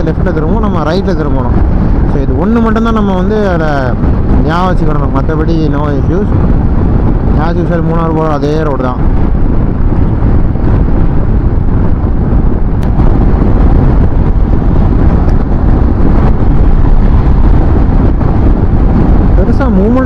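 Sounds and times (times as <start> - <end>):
motorcycle rumble at speed: 0.0 - 20.0
wind buffeting the microphone: 0.0 - 20.0.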